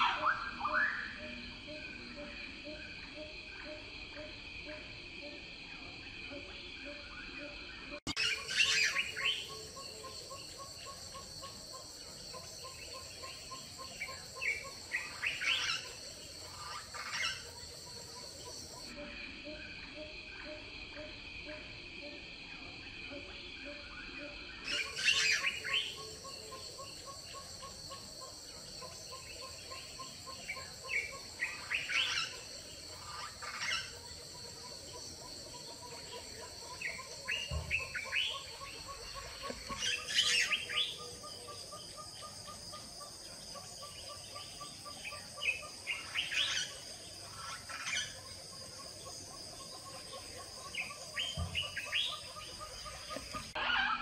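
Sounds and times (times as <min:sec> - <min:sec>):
high-pitched insect chorus: 0:00.0 - 0:54.0
small birds chirping: 0:05.8 - 0:20.6, 0:22.8 - 0:53.8.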